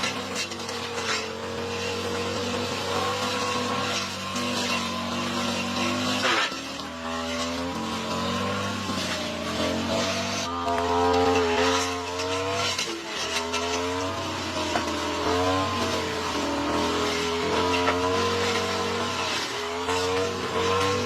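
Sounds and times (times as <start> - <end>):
lawn mower engine running hard: 0.0 - 21.0.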